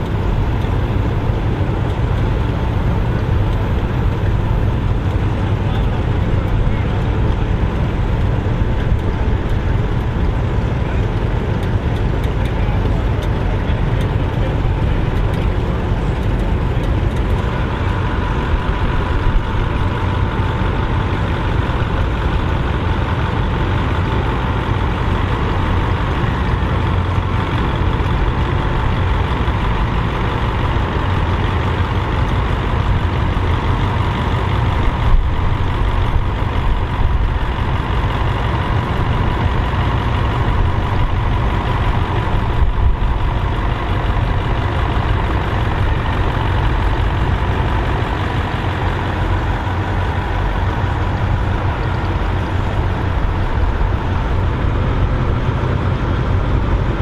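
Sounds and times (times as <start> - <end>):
tractor engines running: 0.0 - 57.0.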